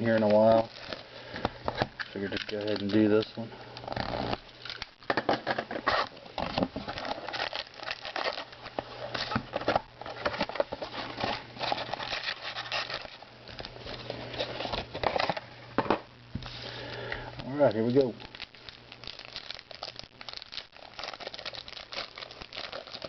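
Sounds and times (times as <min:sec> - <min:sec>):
packaging crinkling and tearing: 0:00.0 - 0:05.1, 0:05.7 - 0:15.4, 0:17.4 - 0:23.0
steady low hum: 0:00.0 - 0:23.0.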